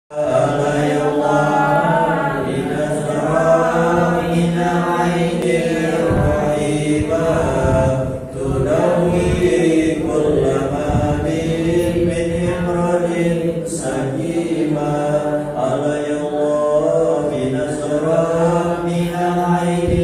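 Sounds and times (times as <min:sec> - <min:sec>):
men chanting into microphones: 0:00.1 - 0:20.0.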